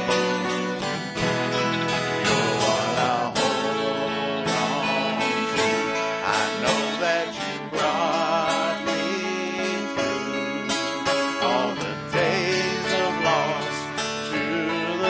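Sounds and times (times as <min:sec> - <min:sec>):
people singing: 0:00.0 - 0:15.0
strummed acoustic guitar: 0:00.0 - 0:15.0.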